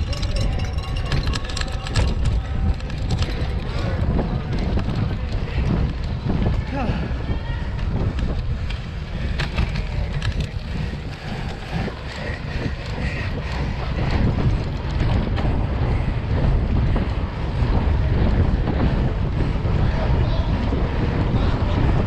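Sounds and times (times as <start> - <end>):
rushing tyre noise: 0.0 - 22.0
wind buffeting microphone: 0.0 - 22.0.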